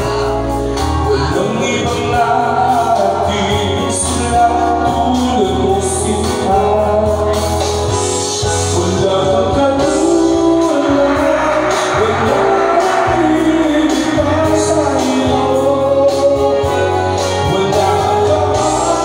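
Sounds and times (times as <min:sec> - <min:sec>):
amplified backing music: 0:00.0 - 0:19.0
person singing into microphone: 0:00.0 - 0:19.0.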